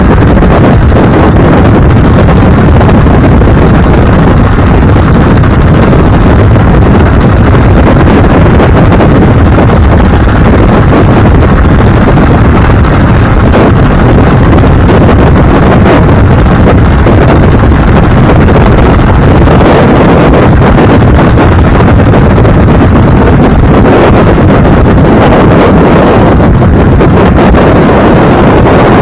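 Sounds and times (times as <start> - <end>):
wind buffeting microphone: 0.0 - 29.0
wind rush and road noise: 0.0 - 29.0.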